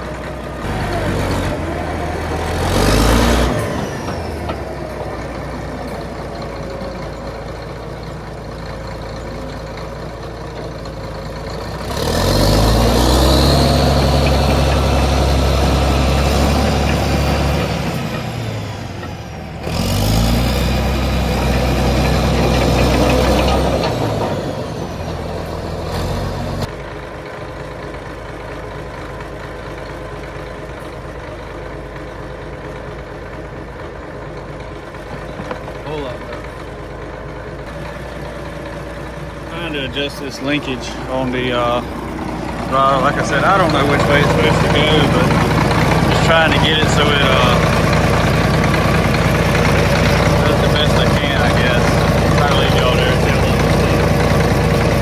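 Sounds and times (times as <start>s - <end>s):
dozer diesel engine idling and revving: 0.0s - 55.0s.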